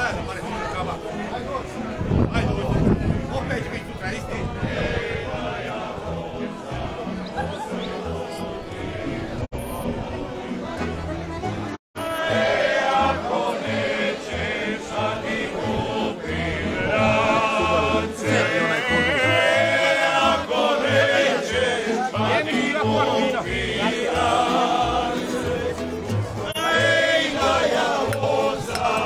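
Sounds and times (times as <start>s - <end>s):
men singing folk song: 0.1s - 11.0s, 12.0s - 29.0s
accordion: 3.0s - 29.0s.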